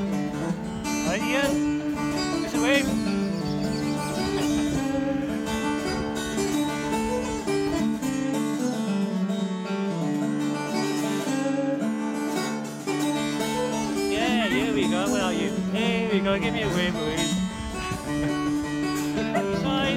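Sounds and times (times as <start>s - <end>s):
acoustic guitar plucking: 0.0s - 19.9s.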